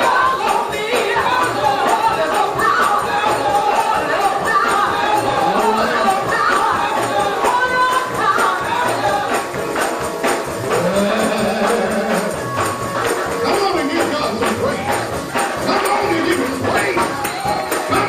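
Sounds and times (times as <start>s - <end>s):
tambourine shaken and struck: 0.0s - 18.0s
voices singing: 0.0s - 18.0s.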